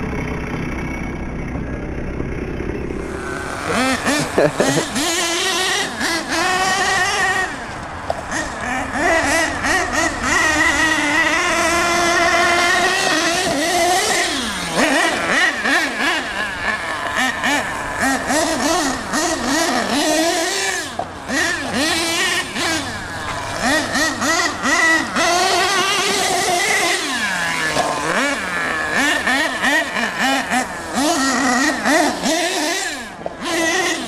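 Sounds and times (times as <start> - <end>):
rc truck engine revving: 0.0 - 34.0.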